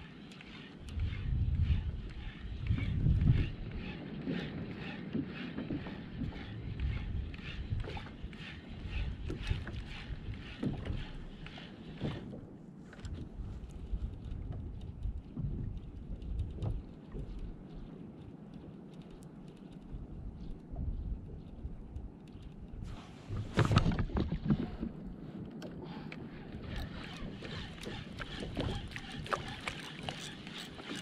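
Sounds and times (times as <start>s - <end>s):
water lapping against kayak hull: 0.0s - 31.0s
wind buffeting microphone: 0.8s - 18.2s, 19.8s - 31.0s.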